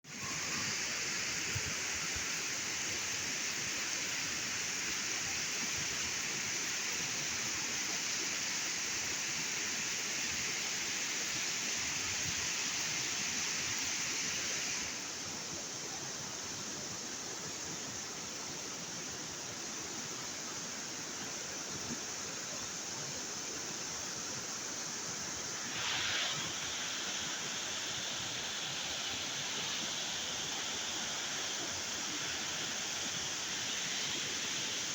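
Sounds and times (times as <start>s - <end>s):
river rushing: 0.1s - 34.9s.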